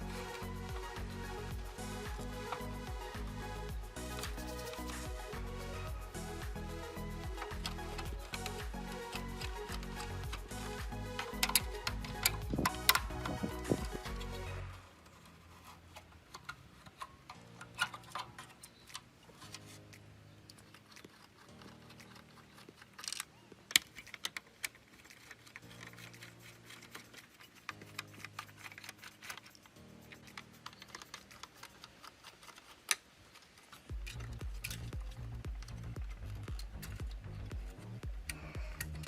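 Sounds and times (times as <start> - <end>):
hand tools clicking and tapping: 0.0 - 39.0
soft background music: 0.0 - 39.0.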